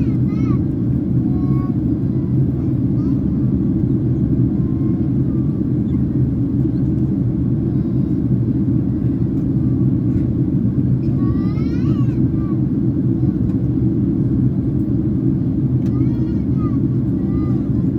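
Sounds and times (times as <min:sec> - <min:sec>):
aircraft cabin engine and airflow rumble: 0:00.0 - 0:17.9.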